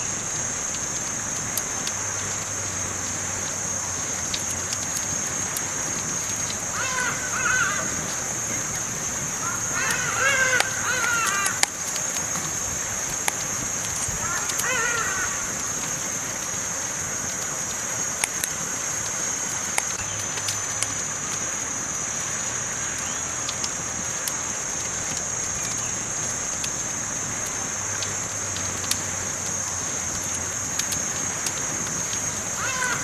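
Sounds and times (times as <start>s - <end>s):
steady hiss: 0.0s - 33.0s
wood crackling and popping: 0.0s - 33.0s.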